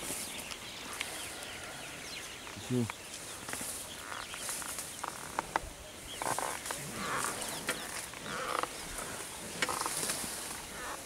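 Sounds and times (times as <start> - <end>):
birds chattering calls: 0.0 - 11.0.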